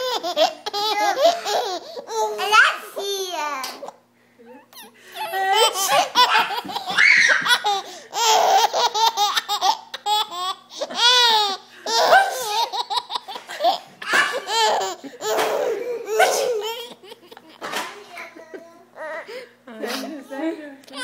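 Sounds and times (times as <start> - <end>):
baby laughing: 0.0 - 4.0, 4.6 - 19.3.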